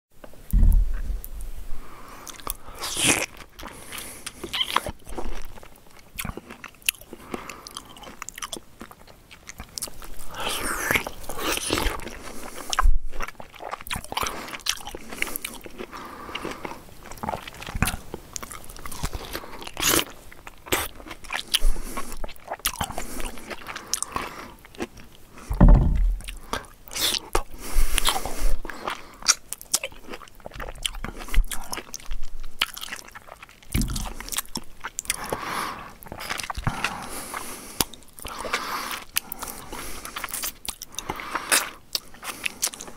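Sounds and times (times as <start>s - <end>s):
person biting and chewing fruit: 0.5s - 42.9s.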